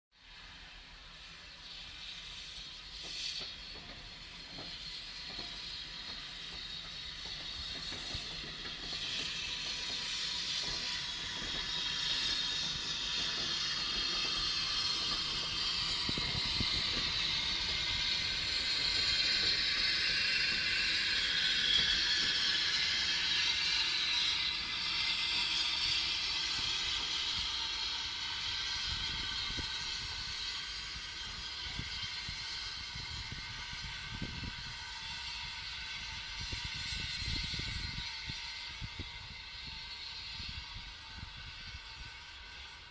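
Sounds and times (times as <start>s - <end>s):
steam train passing: 0.2s - 42.9s.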